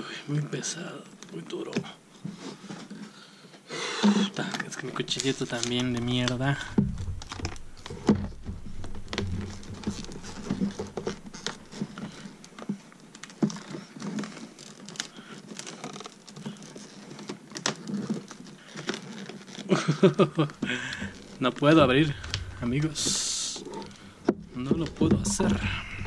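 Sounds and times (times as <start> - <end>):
hard plastic packaging crackling: 4.0 - 26.0.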